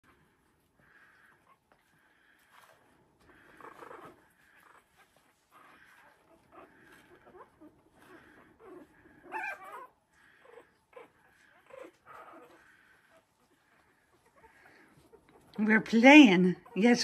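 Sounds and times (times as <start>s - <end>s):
puppies whimpering and squeaking: 0.3s - 17.0s.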